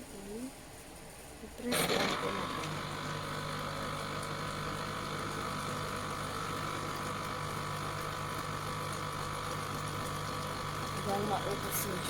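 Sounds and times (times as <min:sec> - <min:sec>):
citrus juicer motor running: 0:01.6 - 0:12.0.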